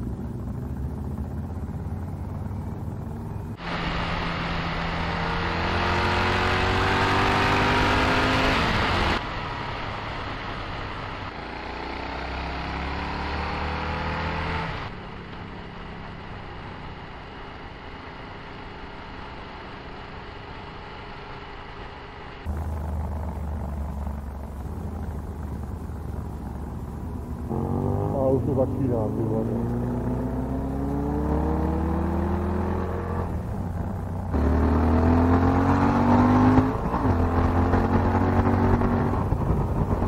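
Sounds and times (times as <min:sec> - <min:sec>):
motorcycle engine revving: 0:00.0 - 0:21.4, 0:22.4 - 0:40.0.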